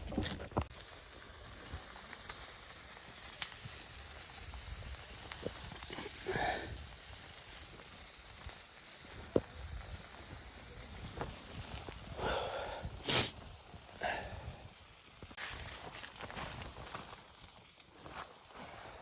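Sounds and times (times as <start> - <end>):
fire popping: 0.0 - 19.0
wood fire hissing and crackling: 0.0 - 19.0.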